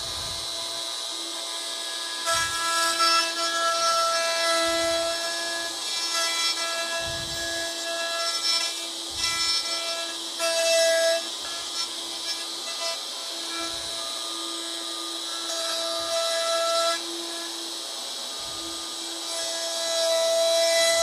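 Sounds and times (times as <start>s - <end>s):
router cutting wood: 0.0s - 21.0s.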